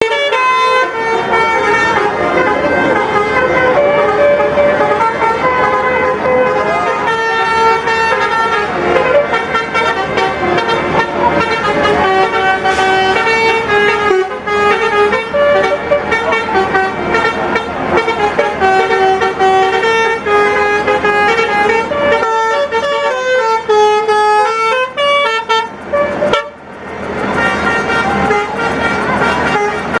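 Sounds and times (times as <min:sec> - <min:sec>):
musical bus horn tune: 0:00.0 - 0:30.0.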